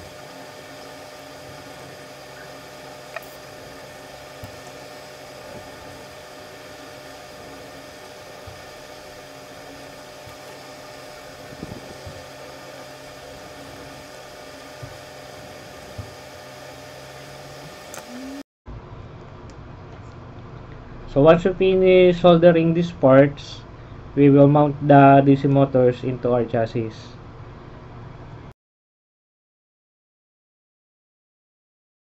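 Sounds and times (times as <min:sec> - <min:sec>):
steady hiss and low hum: 0:00.0 - 0:28.5.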